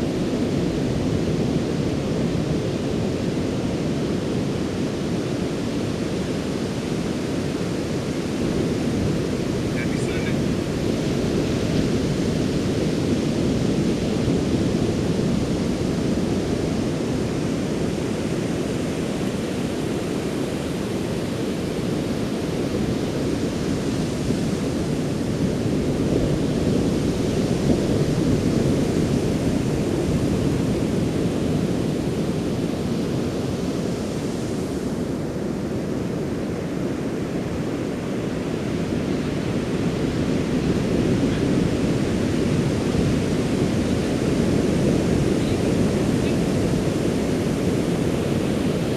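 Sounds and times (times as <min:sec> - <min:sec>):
ocean surf breaking on beach: 0:00.0 - 0:48.9.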